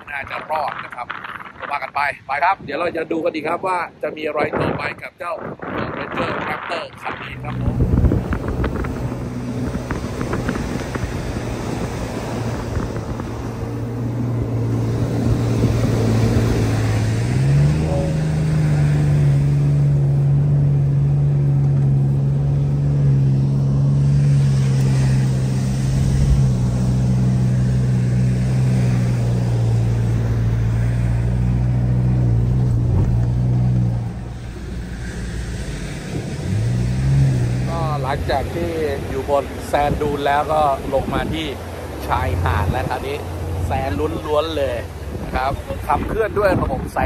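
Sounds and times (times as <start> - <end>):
car engine pulling: 6.2 - 47.0.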